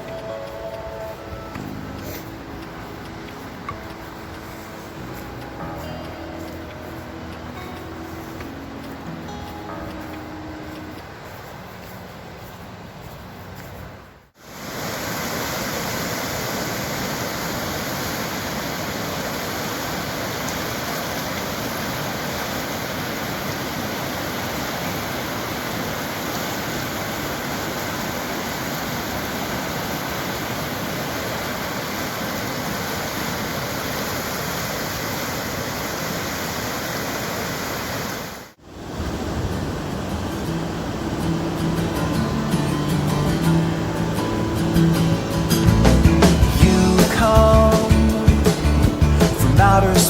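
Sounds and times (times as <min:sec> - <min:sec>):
river rushing: 0:00.0 - 0:50.0.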